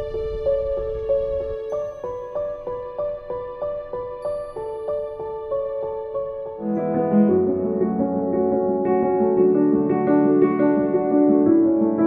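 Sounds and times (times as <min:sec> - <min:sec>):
gentle new-age music: 0:00.0 - 0:12.0.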